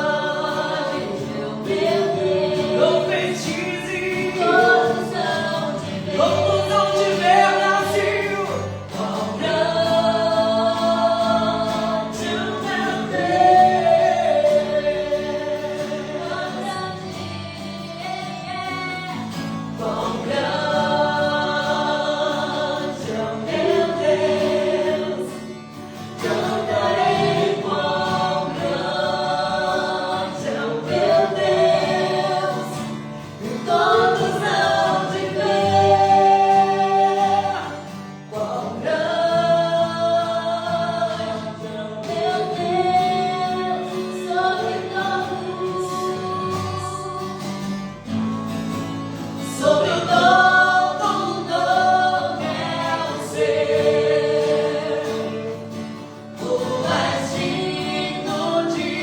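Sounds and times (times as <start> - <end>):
group singing gospel song: 0.0 - 59.0.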